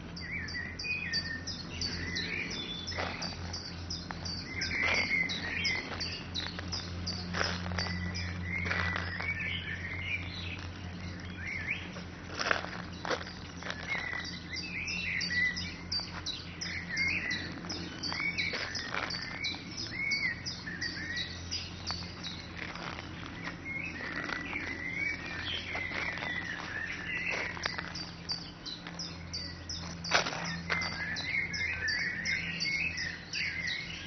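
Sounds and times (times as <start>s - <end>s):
small birds chirping: 0.0s - 34.0s
steady low hum: 0.0s - 34.0s.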